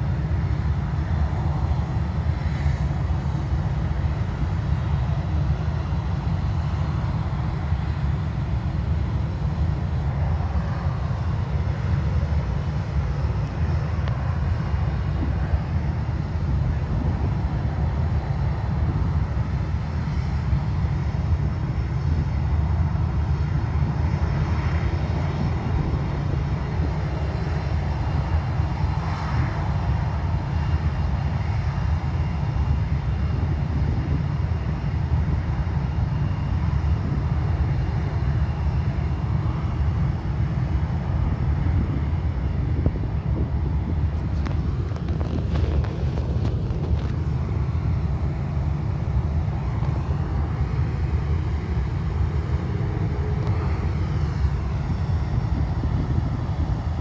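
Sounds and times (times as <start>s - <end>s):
jet engines low rumble and whine: 0.0s - 57.0s.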